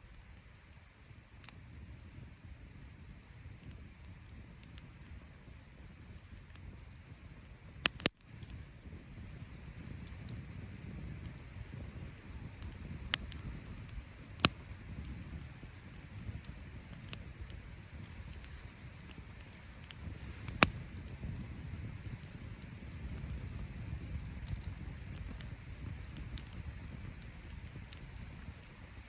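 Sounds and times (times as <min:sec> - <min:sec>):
campfire pops: 0:00.0 - 0:29.0
campfire rumbling: 0:00.0 - 0:29.0.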